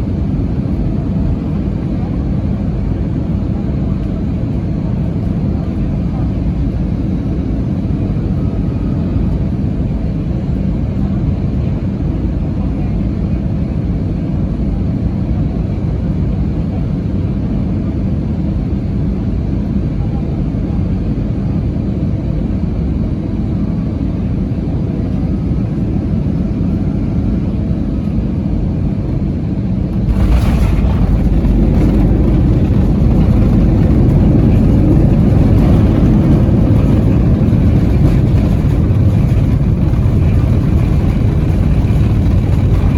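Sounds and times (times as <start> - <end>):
aircraft engine rumble: 0.0 - 42.9.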